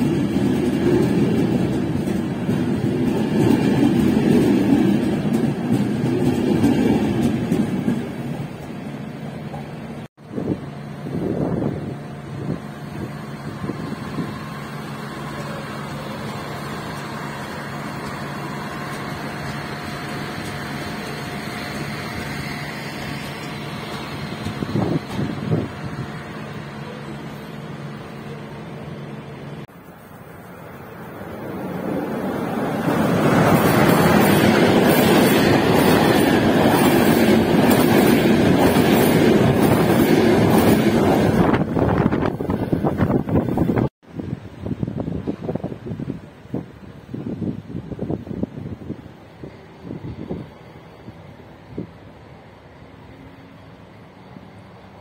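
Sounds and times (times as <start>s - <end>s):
train wheels rumbling on rails: 0.0s - 55.0s
diesel engine low drone: 8.4s - 44.7s, 46.0s - 55.0s.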